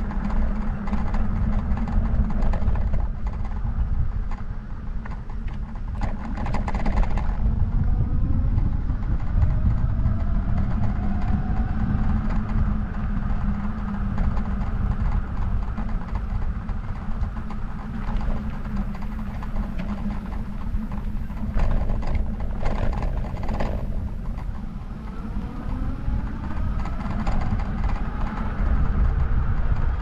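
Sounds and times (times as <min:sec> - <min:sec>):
road noise: 0:00.0 - 0:30.0
wind buffeting: 0:00.0 - 0:30.0.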